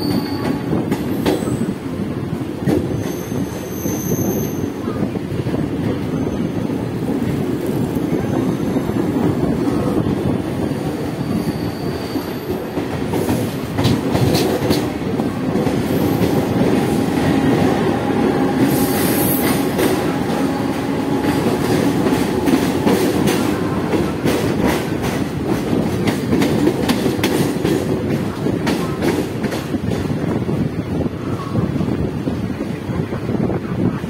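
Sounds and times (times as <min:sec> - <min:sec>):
train coach rumbling: 0:00.0 - 0:34.0.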